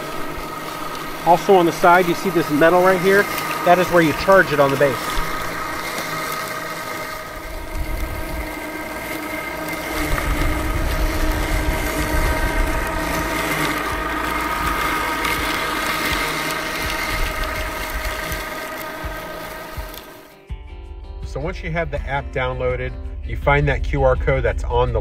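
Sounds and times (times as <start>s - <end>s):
robotic lawn mower whining: 0.0s - 20.4s.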